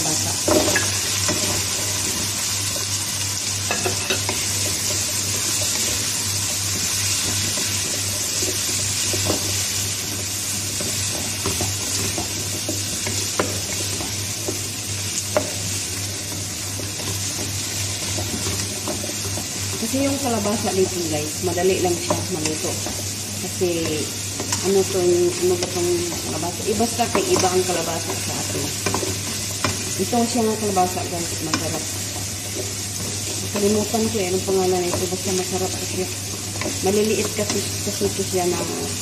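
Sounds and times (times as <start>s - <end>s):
food sizzling in pan: 0.0s - 39.0s.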